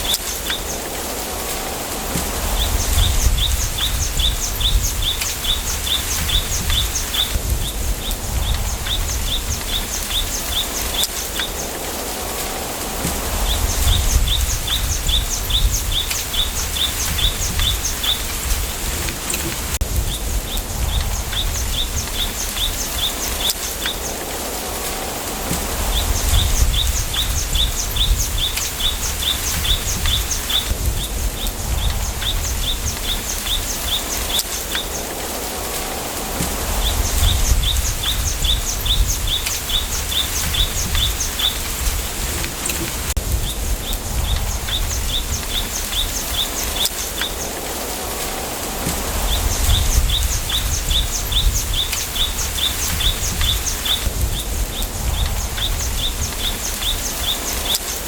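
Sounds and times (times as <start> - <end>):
wind gusts on microphone: 0.0 - 58.0
wind rustling bamboo: 0.0 - 58.0.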